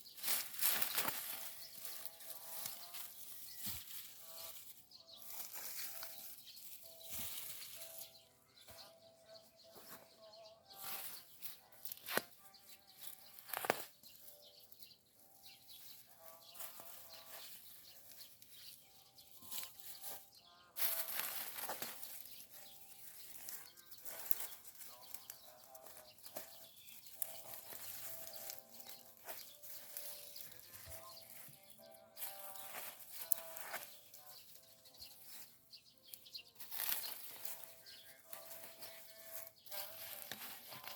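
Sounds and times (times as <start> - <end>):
birds calling: 0.0 - 40.9.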